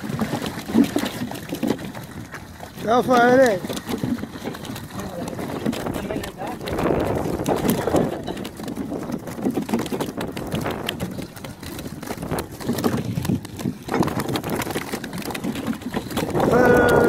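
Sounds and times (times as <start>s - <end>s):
fishing net knocking and rustling: 0.0s - 17.0s.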